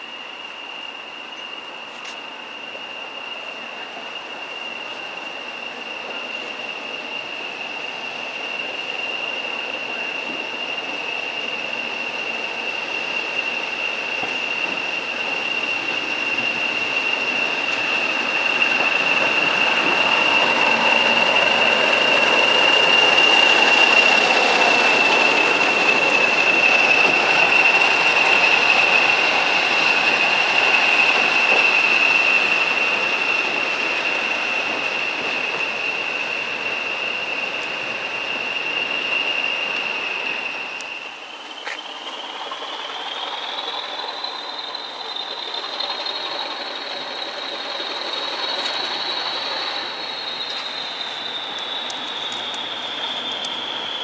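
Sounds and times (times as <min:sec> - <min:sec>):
diesel locomotive running: 0:00.0 - 0:54.0
high turbocharger whistle: 0:00.0 - 0:54.0.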